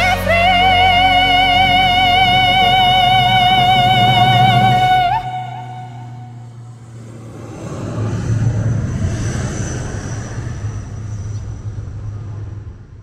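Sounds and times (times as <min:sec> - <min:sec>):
high turbine whine: 0:00.0 - 0:13.0
propeller drone: 0:00.0 - 0:13.0.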